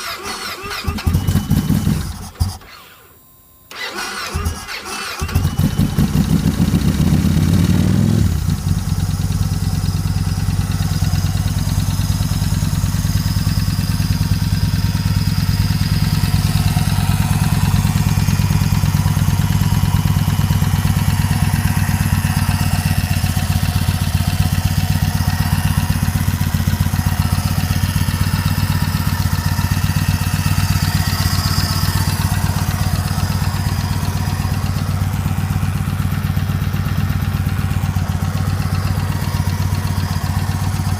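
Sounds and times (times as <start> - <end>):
motorcycle engine idling: 0.9 - 2.5, 5.2 - 40.9.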